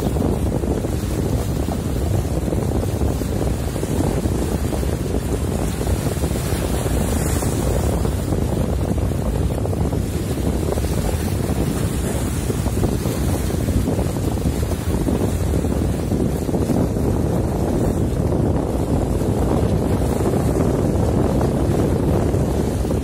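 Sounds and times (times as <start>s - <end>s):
boat noise: 0.0s - 23.0s
water: 0.0s - 23.0s
wind rumbling on microphone: 0.0s - 23.0s.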